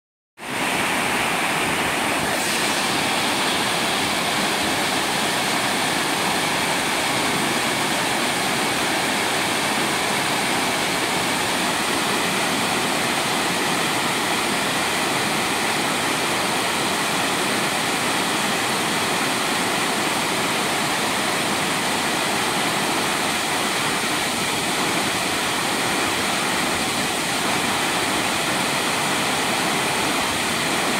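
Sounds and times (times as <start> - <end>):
waterfall splashing into pool: 0.4 - 30.9.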